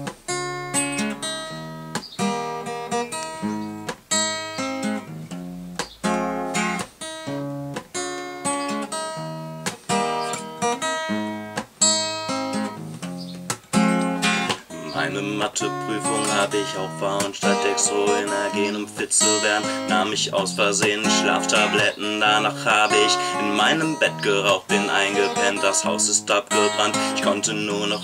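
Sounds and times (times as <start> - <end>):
acoustic guitar strummed: 0.0 - 28.0.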